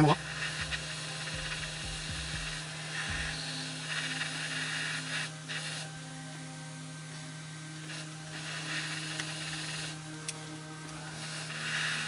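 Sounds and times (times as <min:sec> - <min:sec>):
constant low hum: 0:00.0 - 0:12.0
hot air gun hissing: 0:00.0 - 0:12.0.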